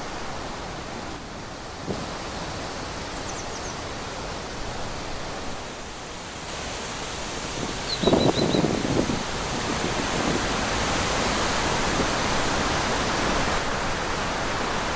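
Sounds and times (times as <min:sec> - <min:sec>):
wind blowing through trees: 0:00.0 - 0:14.9.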